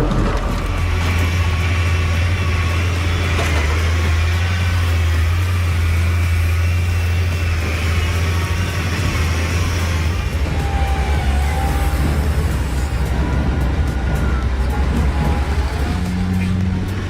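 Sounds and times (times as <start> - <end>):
large engine droning: 0.0 - 17.0
machine noise: 0.0 - 17.0.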